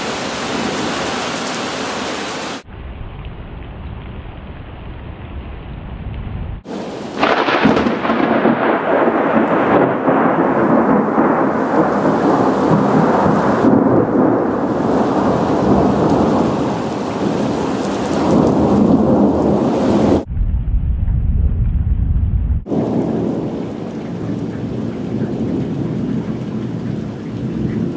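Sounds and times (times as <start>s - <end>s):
heavy rain: 0.0s - 27.9s
rolling thunderclap: 2.6s - 27.9s.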